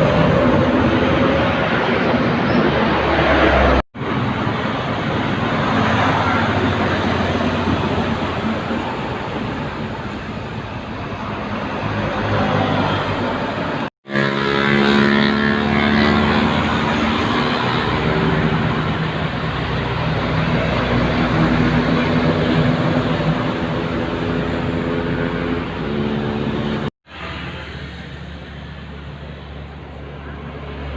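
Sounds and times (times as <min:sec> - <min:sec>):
truck engine drone: 0:00.0 - 0:30.9
trucks passing on highway: 0:00.0 - 0:30.9.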